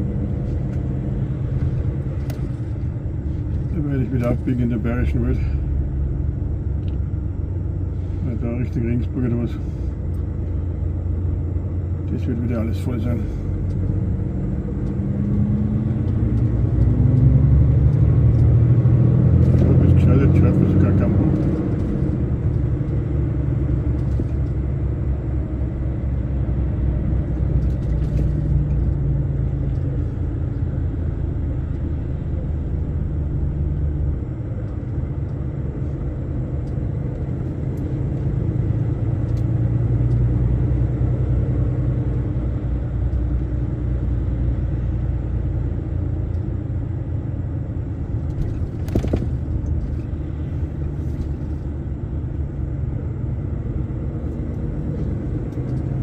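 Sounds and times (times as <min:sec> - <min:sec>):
road rumble: 0:00.0 - 0:56.0
truck engine drone: 0:00.0 - 0:56.0.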